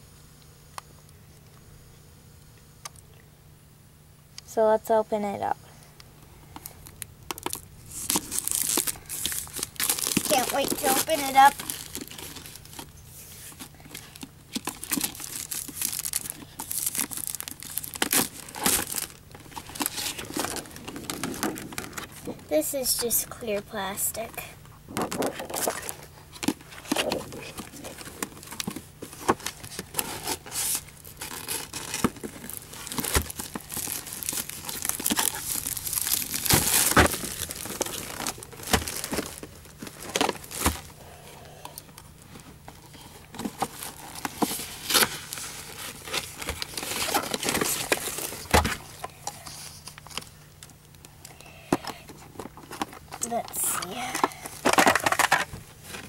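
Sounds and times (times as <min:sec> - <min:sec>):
plastic packaging crinkling and tearing: 0:06.6 - 0:41.0, 0:41.8 - 0:51.1, 0:51.8 - 0:56.0.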